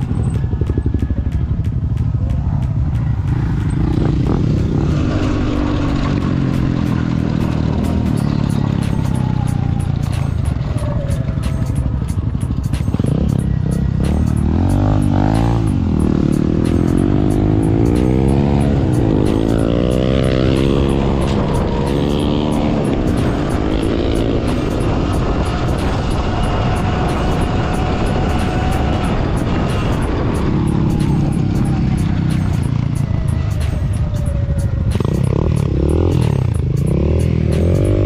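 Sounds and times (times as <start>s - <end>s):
motorcycle engine revving: 0.0s - 38.0s
wind and ride noise: 0.0s - 38.0s.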